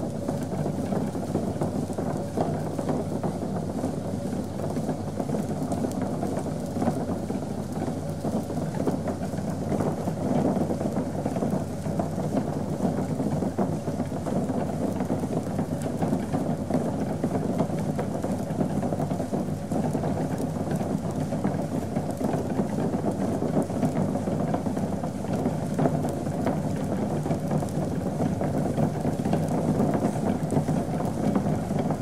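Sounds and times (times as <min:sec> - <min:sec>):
liquid bubbling and crackling: 0:00.0 - 0:32.0.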